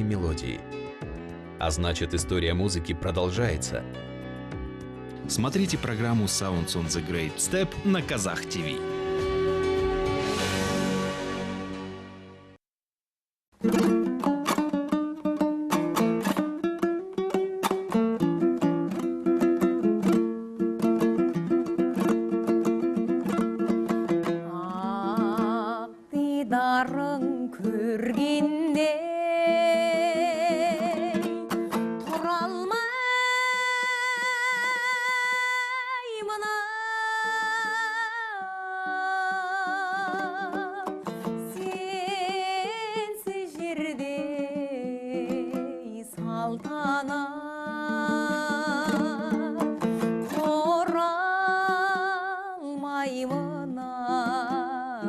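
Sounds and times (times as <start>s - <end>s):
plucked string instrument: 0.0s - 12.6s, 13.6s - 55.0s.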